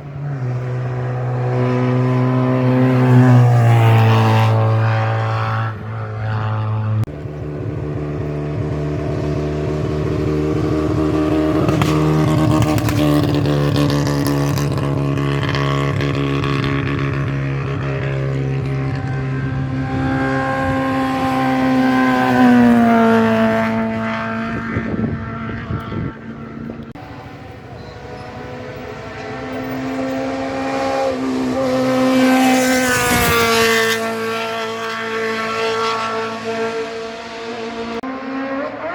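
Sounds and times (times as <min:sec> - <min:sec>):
racing car engines revving: 0:00.0 - 0:38.9.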